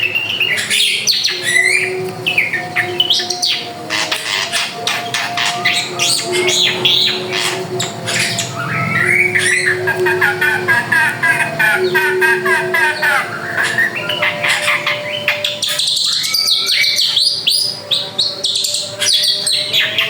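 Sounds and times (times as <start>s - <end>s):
bird singing varied notes: 0.0s - 20.0s.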